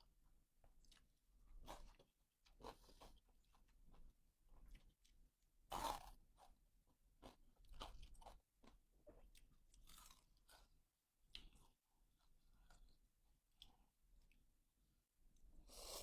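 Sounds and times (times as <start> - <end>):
person chewing and crunching food: 0.6 - 14.4, 15.4 - 16.0.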